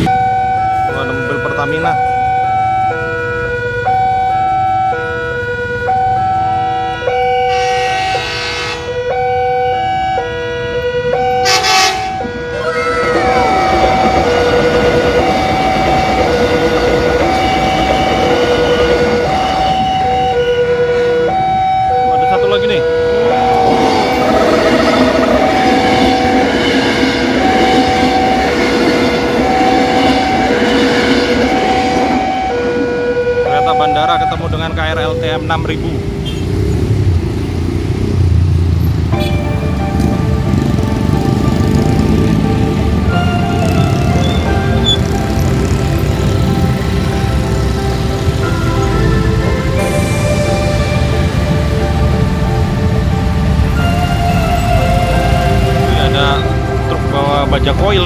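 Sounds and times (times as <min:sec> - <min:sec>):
two-tone electronic warning alarm: 0:00.0 - 0:36.4, 0:41.7 - 0:52.0
motorbike engines: 0:00.0 - 0:58.0
truck engines: 0:00.0 - 0:58.0.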